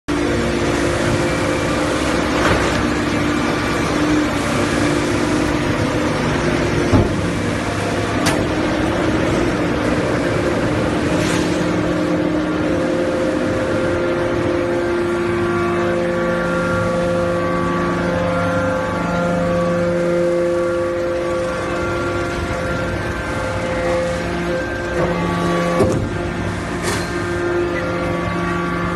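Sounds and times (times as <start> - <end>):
hydraulic pump motor hum: 0.1 - 28.9.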